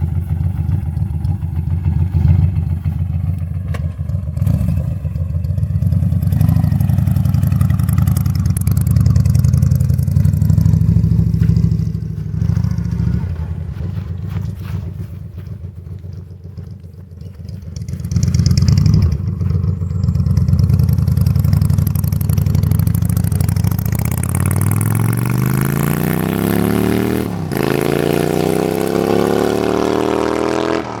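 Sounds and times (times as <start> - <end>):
vehicle engine accelerating: 0.0 - 31.0.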